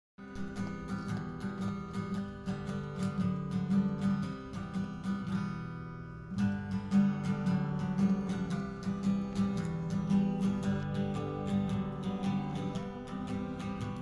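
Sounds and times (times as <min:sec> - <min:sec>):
acoustic guitar strumming: 0:00.2 - 0:14.0.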